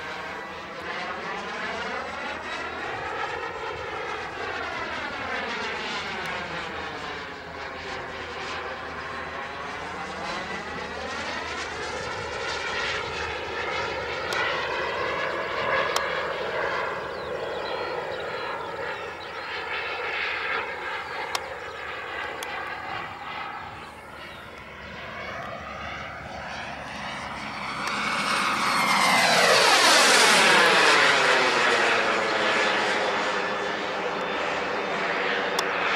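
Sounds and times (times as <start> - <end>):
model jet turbine whine: 0.0 - 35.9.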